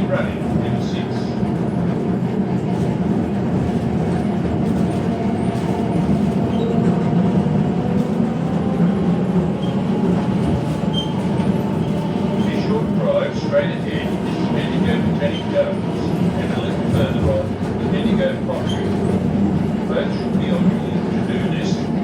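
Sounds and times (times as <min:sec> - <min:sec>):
tram wheels rumbling: 0:00.0 - 0:22.0.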